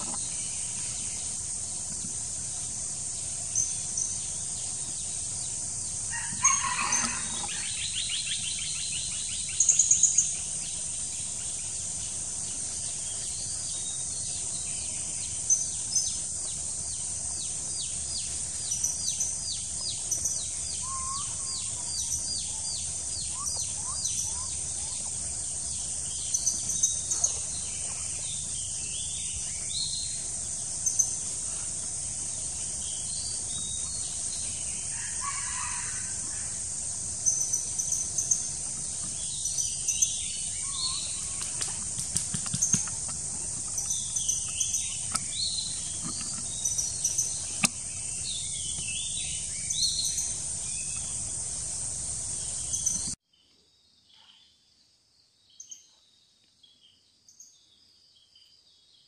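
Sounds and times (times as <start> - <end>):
high-pitched insect drone: 0.0 - 53.2
wild birds chirping: 0.0 - 53.2.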